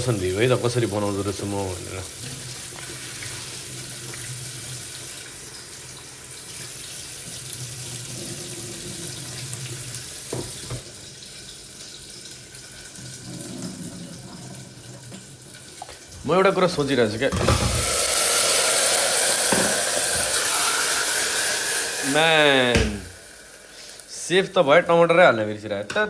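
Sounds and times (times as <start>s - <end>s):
tap water running into sink: 0.0s - 24.1s.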